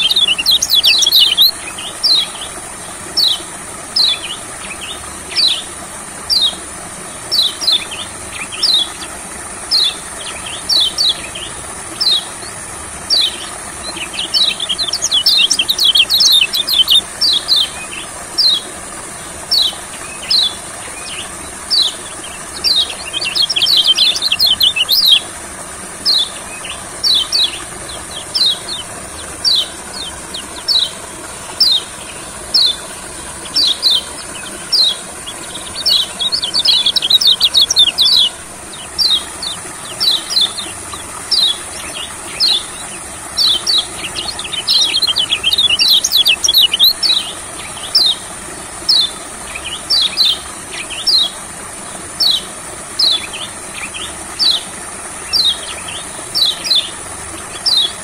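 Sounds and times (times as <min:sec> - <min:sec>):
rapid bird twittering: 0:00.0 - 0:51.4, 0:52.1 - 0:58.0.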